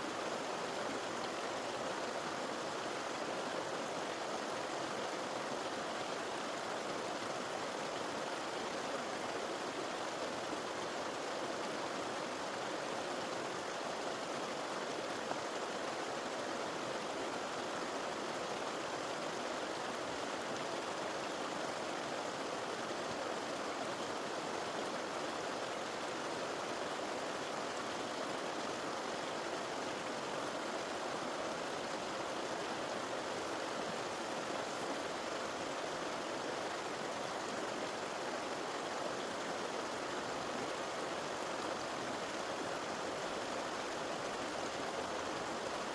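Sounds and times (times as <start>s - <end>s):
river water flowing: 0.0s - 45.9s.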